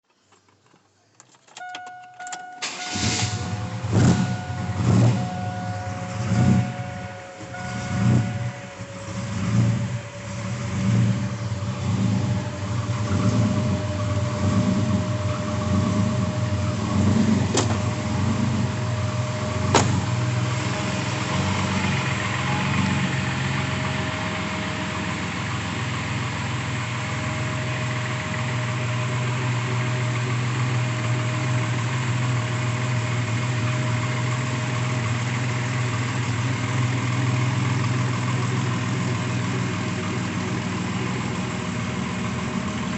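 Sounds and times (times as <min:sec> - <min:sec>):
pickup engine surging and idling: 0:01.6 - 0:42.9.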